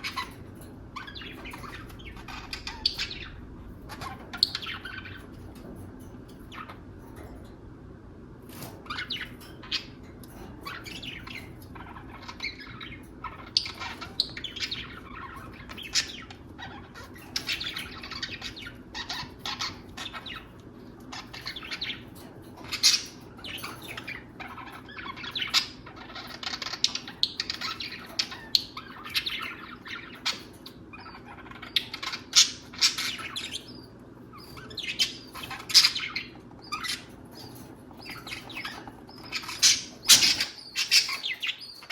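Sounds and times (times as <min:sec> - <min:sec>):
budgerigars chirping and chattering: 0:00.0 - 0:41.9
faint low hum: 0:00.0 - 0:41.9.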